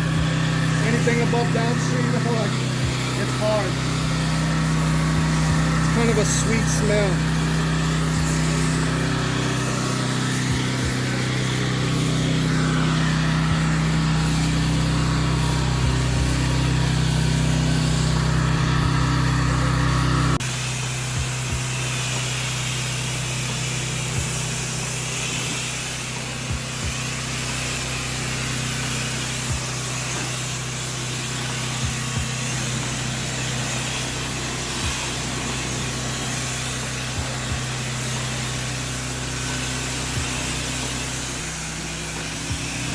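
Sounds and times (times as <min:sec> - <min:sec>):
high-pressure water spray hiss: 0:00.0 - 0:19.3, 0:20.4 - 0:42.9
pressure washer engine humming: 0:00.0 - 0:42.9.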